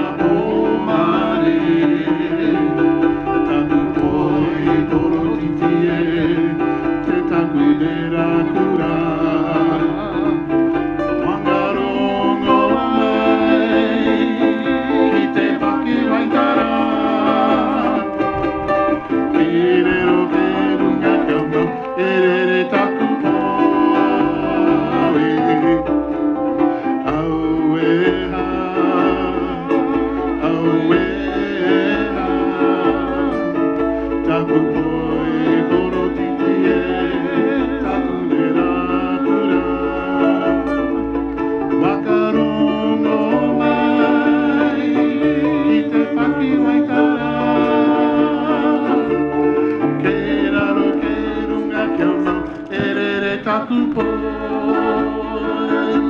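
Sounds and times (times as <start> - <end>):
group singing: 0.0 - 56.0
strummed ukulele and guitar: 0.0 - 56.0.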